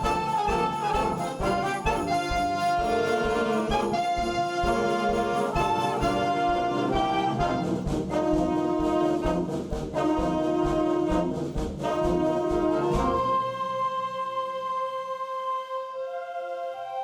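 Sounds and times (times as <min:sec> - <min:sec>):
percussion beat: 0:00.0 - 0:14.0
school brass band playing: 0:00.0 - 0:17.0.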